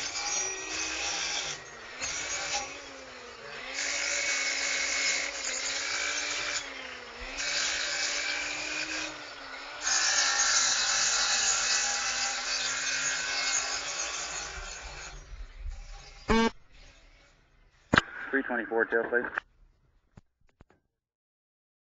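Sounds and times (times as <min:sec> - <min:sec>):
grinder rasping on steel: 0:00.0 - 0:17.9.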